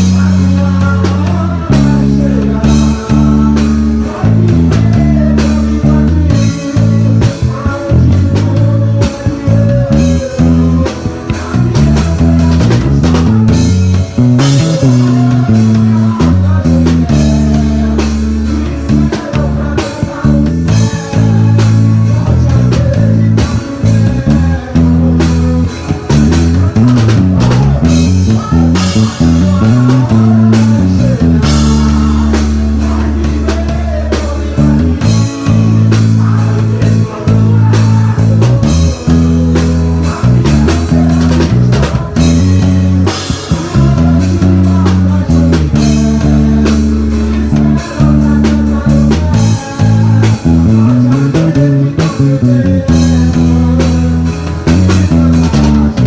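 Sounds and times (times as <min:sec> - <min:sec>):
bass guitar: 0:00.0 - 0:56.0
drum kit: 0:00.0 - 0:56.0
guitar: 0:00.0 - 0:56.0.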